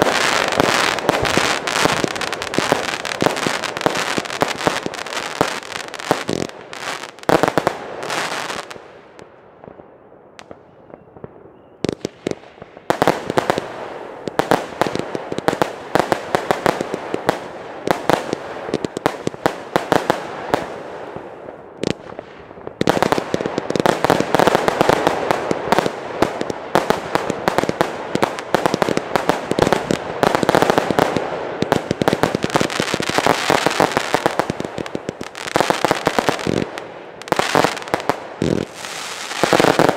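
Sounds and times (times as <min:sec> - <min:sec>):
fireworks bangs and bursts: 0:00.0 - 0:39.9.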